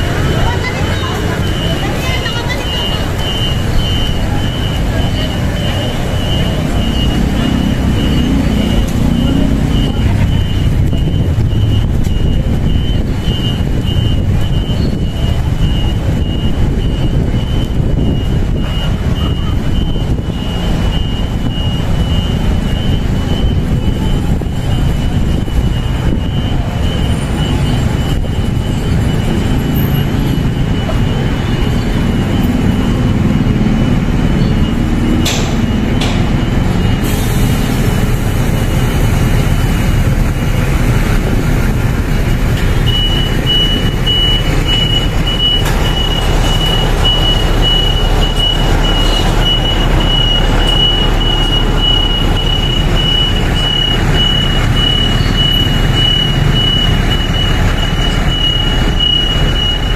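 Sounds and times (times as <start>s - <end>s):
garbage truck engines rumbling: 0.0s - 59.9s.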